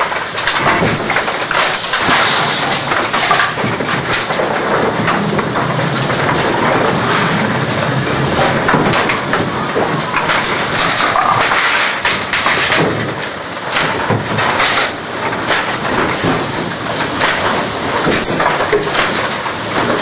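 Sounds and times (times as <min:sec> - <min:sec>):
bowling pinsetter clattering: 0:00.0 - 0:20.0.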